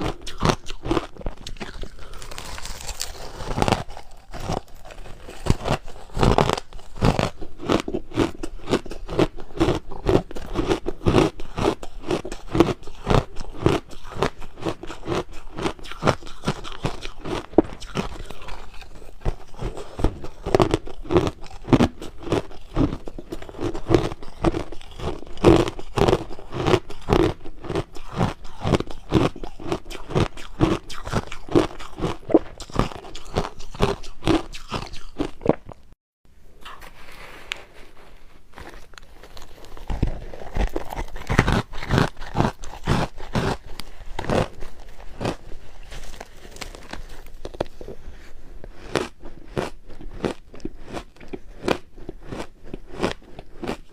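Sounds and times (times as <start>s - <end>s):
crushed ice being chewed: 0.0s - 35.8s, 36.6s - 53.9s.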